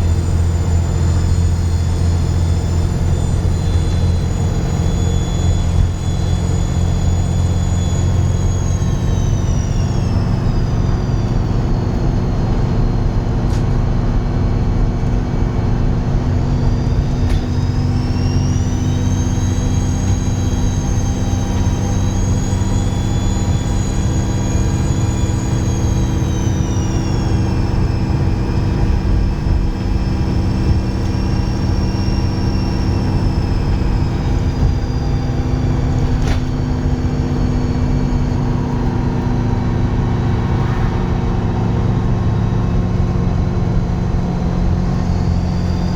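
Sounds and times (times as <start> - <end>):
bus diesel engine drone: 0.0 - 45.9
high turbo whistle: 0.0 - 45.9.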